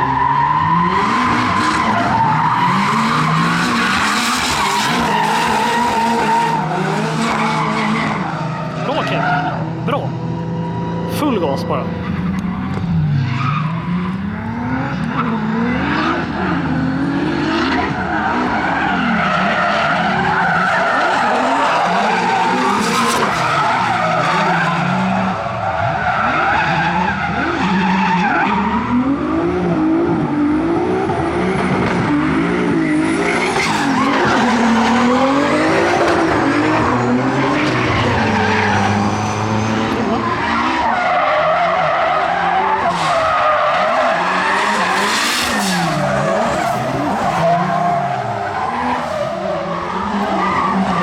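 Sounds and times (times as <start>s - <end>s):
tyre squeal and skidding: 0.0s - 9.7s, 12.0s - 16.8s, 17.4s - 29.0s, 32.7s - 51.0s
car engines revving: 0.0s - 51.0s.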